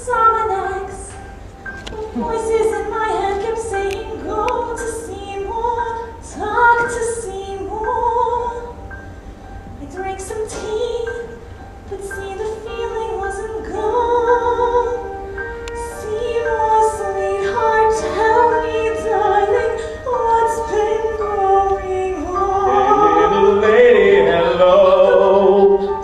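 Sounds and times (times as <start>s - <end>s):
woman singing: 0.0s - 1.3s, 2.0s - 8.8s, 9.8s - 26.0s
instrumental accompaniment: 0.0s - 26.0s.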